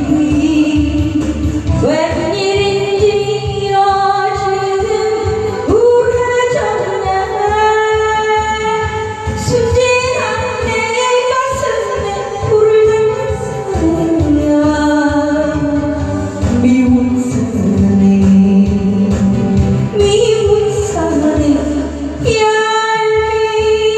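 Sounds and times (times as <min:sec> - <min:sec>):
backing track with steady beat: 0:00.0 - 0:23.9.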